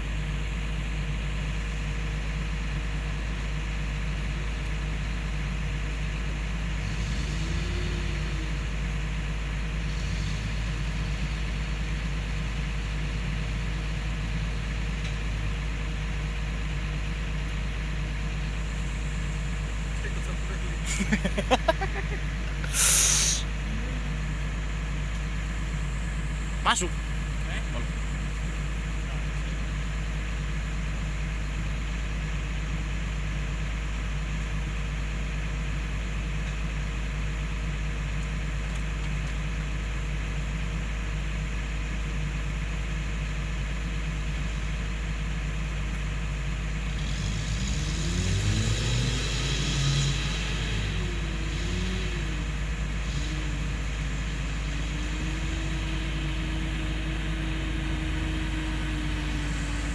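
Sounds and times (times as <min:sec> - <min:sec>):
truck engine running and revving: 0:00.0 - 0:59.9.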